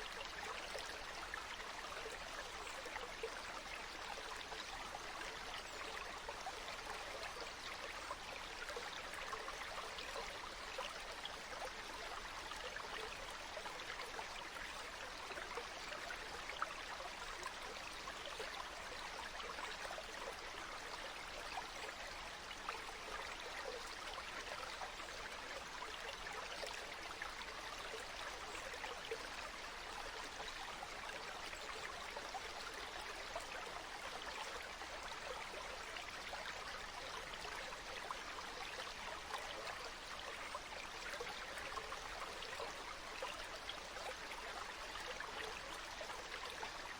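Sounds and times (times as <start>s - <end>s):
water babbling in a stream: 0.0s - 46.9s.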